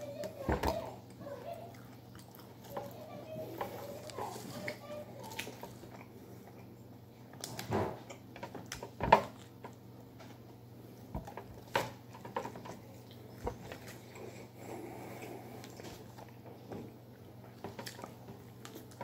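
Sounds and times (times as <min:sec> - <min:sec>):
biting and chewing: 0:00.0 - 0:09.9, 0:11.1 - 0:19.0.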